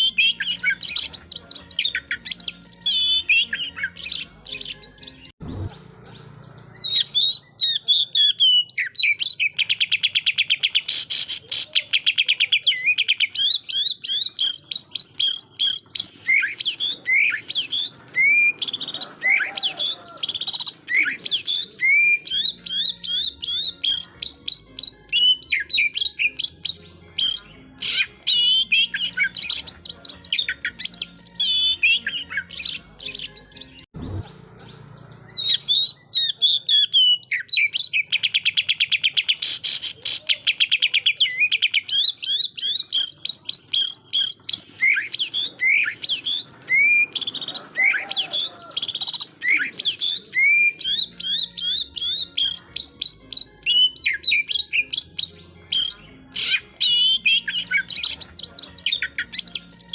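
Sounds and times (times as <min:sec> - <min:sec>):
bird singing chirps and whistles: 0:00.0 - 0:59.9.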